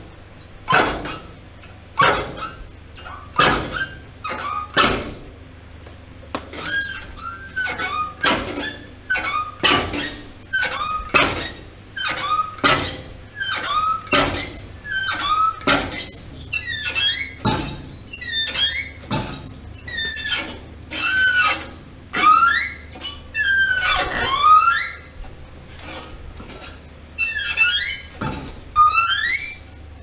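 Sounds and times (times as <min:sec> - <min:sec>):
steel hinges squeaking: 0:00.0 - 0:05.3, 0:06.5 - 0:30.0.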